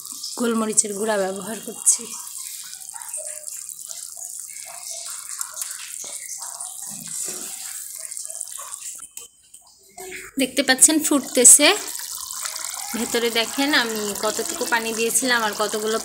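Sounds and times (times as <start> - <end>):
curry bubbling and sizzling: 0.0 - 16.0.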